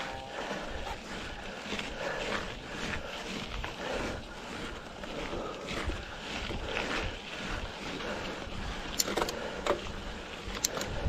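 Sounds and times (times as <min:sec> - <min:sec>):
bike rolling on dirt road: 0:00.0 - 0:11.0
wind buffeting microphone: 0:00.0 - 0:11.0.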